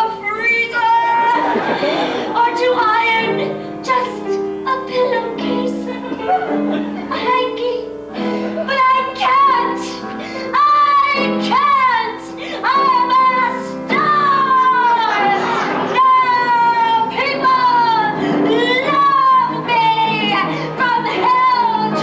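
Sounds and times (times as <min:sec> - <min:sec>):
piano accompaniment: 0:00.0 - 0:22.0
woman belting a show tune: 0:00.0 - 0:22.0.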